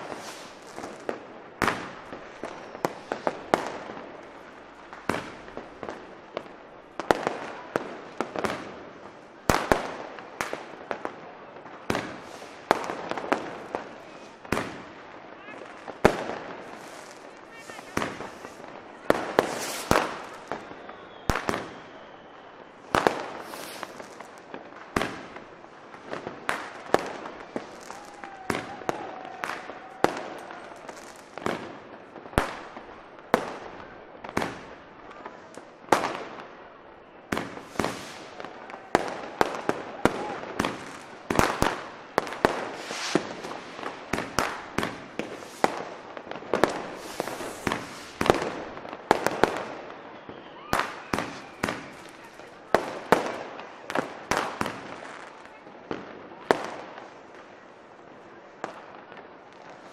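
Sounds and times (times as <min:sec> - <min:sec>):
firecrackers banging: 0:00.0 - 0:22.0, 0:22.8 - 0:33.7, 0:37.3 - 0:50.0, 0:50.6 - 0:55.4.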